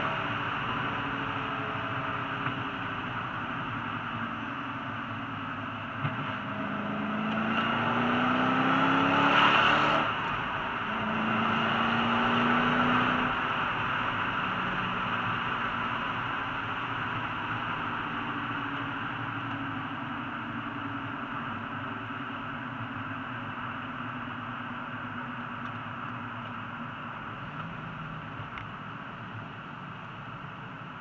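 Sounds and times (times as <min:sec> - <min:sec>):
car engine heard from cabin: 0:00.0 - 0:31.0
road noise: 0:00.0 - 0:31.0.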